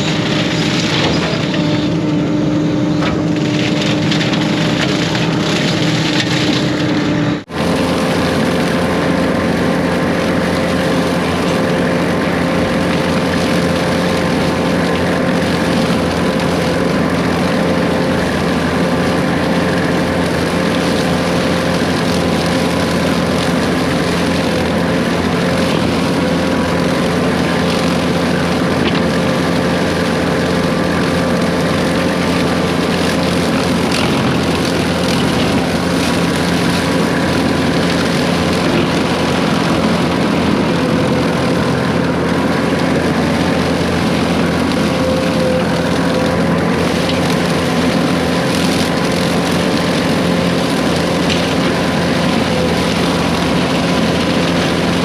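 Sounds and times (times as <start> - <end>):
brush cutter spinning whine: 0.0 - 55.0
excavator diesel engine droning: 0.0 - 55.0.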